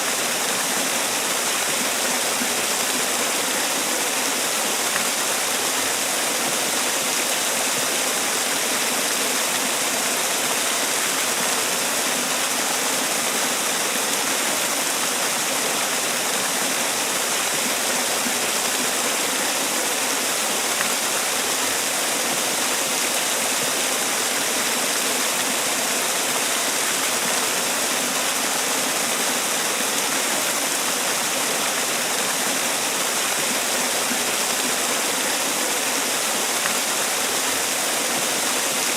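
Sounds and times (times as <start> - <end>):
waterfall splashing: 0.0 - 38.9.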